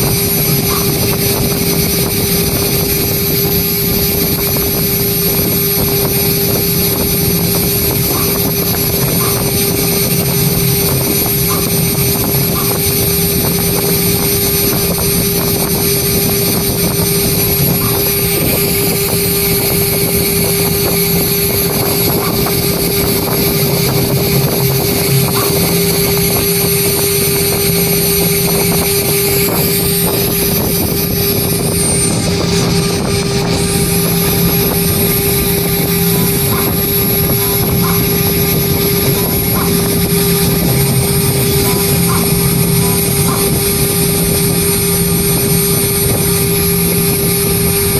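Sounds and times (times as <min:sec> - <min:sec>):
engraving machine spindle whine: 0:00.0 - 0:47.9.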